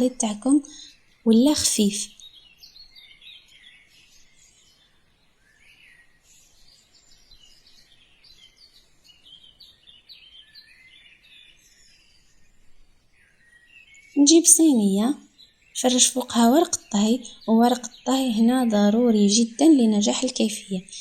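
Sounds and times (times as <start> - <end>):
low background hiss: 0.0 - 21.0
small birds chirping: 0.0 - 21.0.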